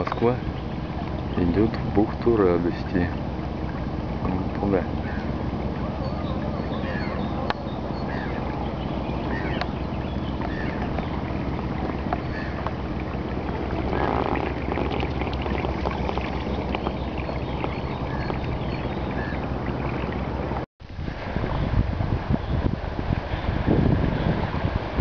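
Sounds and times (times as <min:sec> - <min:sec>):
steady low rumble: 0:00.0 - 0:25.0
water splashing against hull: 0:00.0 - 0:25.0
wind on microphone: 0:00.0 - 0:25.0.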